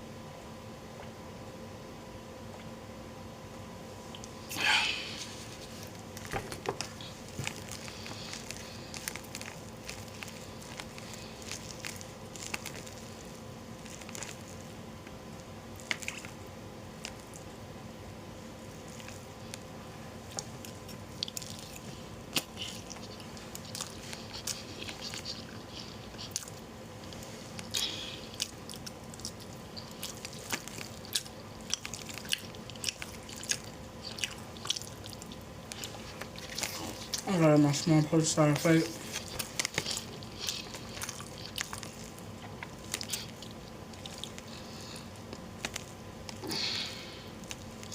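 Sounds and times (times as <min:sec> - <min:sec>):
faint steady hum: 0:00.0 - 0:47.9
person chewing food: 0:04.1 - 0:17.6, 0:18.6 - 0:47.9.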